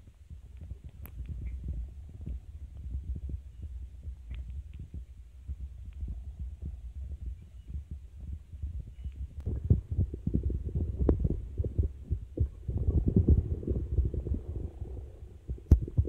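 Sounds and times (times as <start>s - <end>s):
muffled underwater water rumble: 0.0s - 16.0s.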